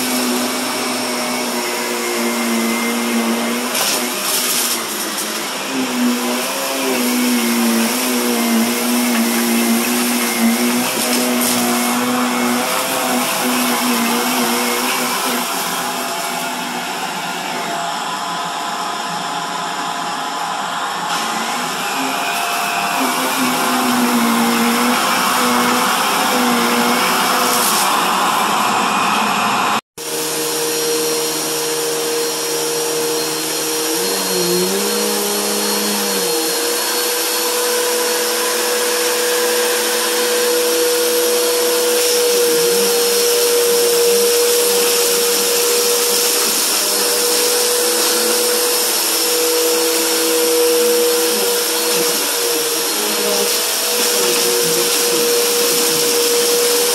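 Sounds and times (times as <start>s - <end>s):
vacuum cleaner running on carpet: 0.0s - 56.9s.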